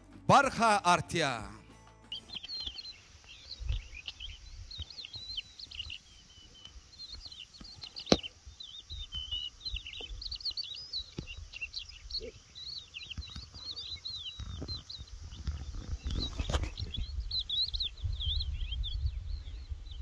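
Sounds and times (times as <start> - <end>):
birds chirping: 2.0 - 20.0.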